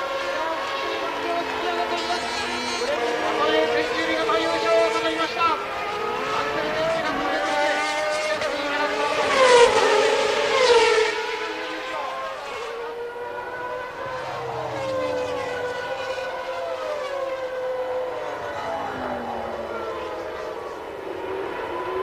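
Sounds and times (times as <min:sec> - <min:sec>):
racing car engines passing: 0:00.0 - 0:22.0
racing car engines revving steadily: 0:00.0 - 0:22.0.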